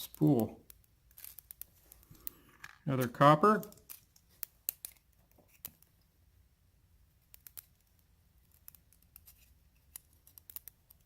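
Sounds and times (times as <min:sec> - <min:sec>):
small metal clicks and taps: 0:00.0 - 0:06.0, 0:07.3 - 0:11.0.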